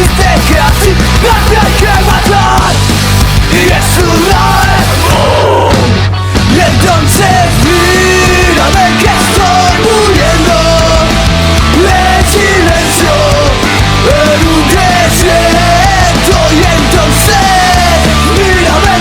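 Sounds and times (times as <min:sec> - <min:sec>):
punk rock band music: 0:00.0 - 0:19.0.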